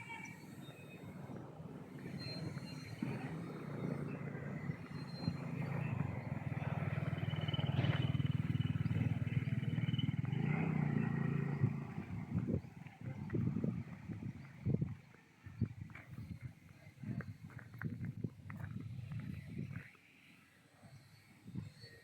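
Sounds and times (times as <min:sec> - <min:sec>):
vehicle engine humming: 0:00.0 - 0:20.2.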